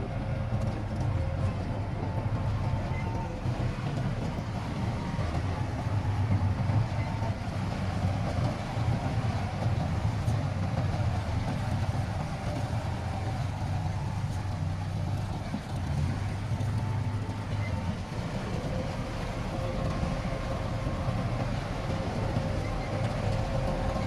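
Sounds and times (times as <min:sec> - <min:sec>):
heavy diesel machinery rumbling: 0:00.0 - 0:24.0.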